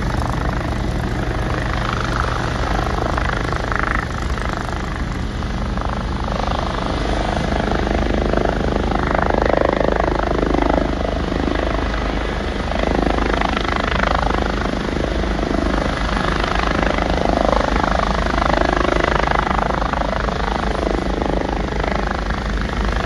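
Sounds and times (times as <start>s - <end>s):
helicopter hovering: 0.0s - 23.0s.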